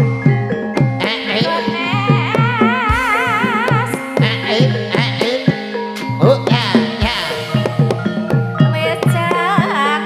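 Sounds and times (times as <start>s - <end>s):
sustained metallophone tones: 0.0s - 10.0s
kendang drum strokes: 1.4s - 9.6s.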